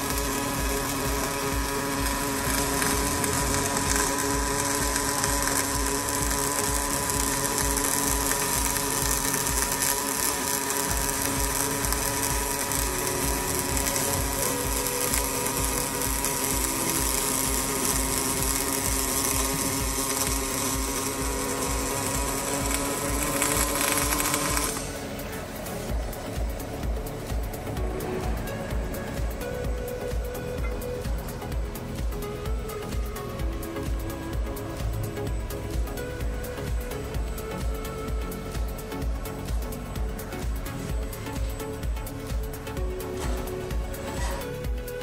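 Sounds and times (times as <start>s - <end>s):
welding arc crackling and buzzing: 0.0s - 45.0s.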